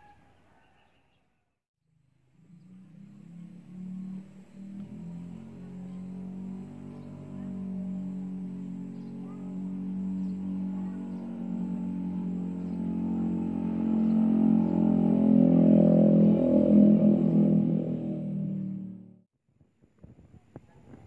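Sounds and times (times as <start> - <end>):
sustained droning music chord: 2.0 - 19.3.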